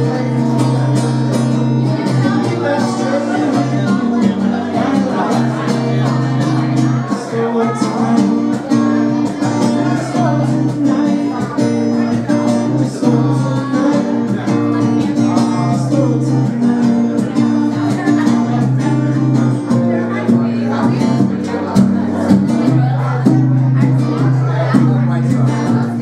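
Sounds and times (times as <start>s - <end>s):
live music with guitar: 0.0s - 26.0s
person singing: 0.0s - 26.0s.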